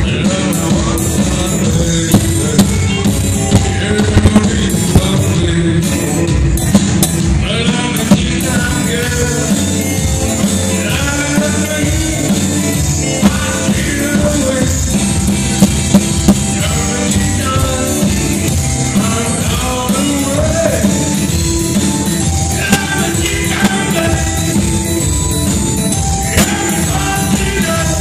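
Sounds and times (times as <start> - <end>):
man singing: 0.0 - 25.3, 26.0 - 28.0
rock band playing live: 0.0 - 28.0.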